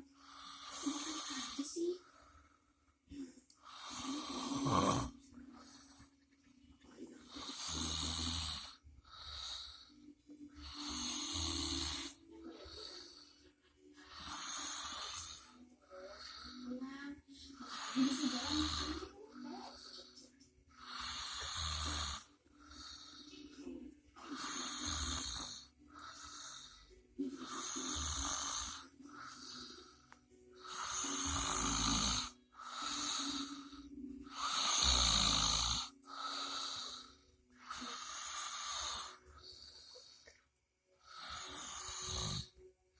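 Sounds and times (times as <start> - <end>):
person snoring: 0.0 - 1.6, 3.6 - 6.1, 7.3 - 10.0, 10.6 - 13.4, 14.0 - 16.7, 17.6 - 20.1, 20.8 - 23.4, 24.2 - 40.3, 41.0 - 42.6.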